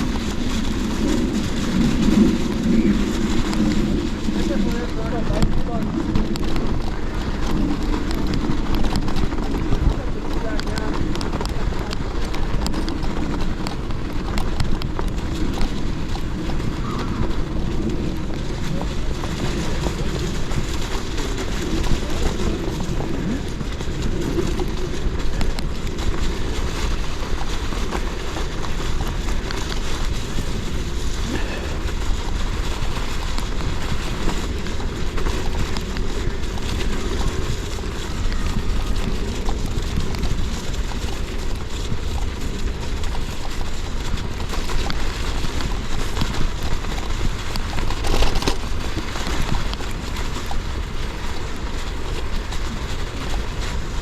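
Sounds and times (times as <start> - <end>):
bike tyres rolling on snow and ice: 0.0 - 54.0
wind rumble on microphone: 0.0 - 54.0.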